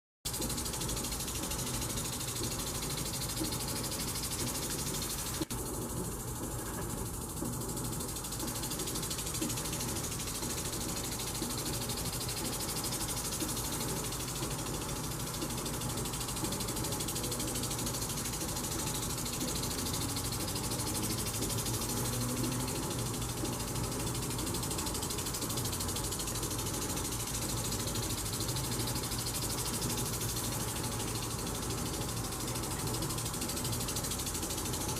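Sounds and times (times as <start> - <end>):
water spraying: 0.3 - 34.9.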